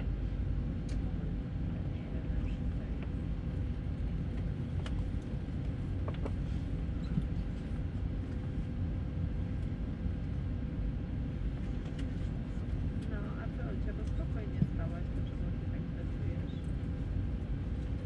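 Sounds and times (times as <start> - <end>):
aircraft cabin rumble: 0.0 - 18.0.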